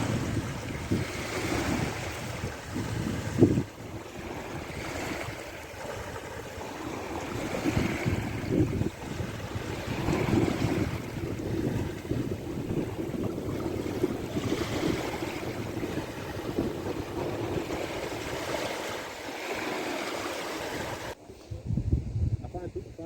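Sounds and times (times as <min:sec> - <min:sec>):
sea surf washing ashore: 0:00.0 - 0:21.6
wind buffeting microphone: 0:00.0 - 0:23.0.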